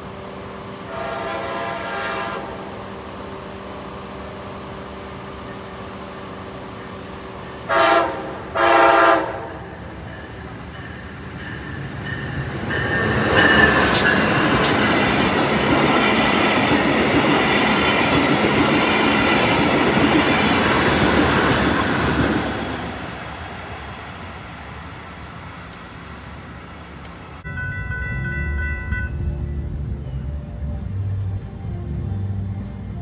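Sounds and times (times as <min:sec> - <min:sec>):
train passing at speed: 0:00.0 - 0:33.0.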